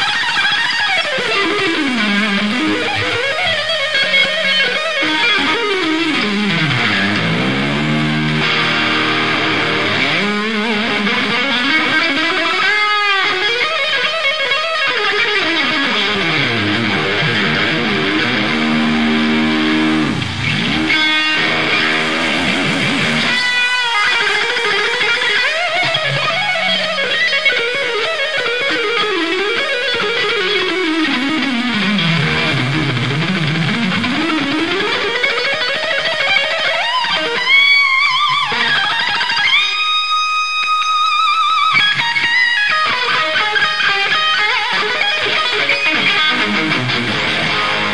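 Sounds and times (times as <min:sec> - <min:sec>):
electric guitar solo: 0:00.0 - 0:47.9.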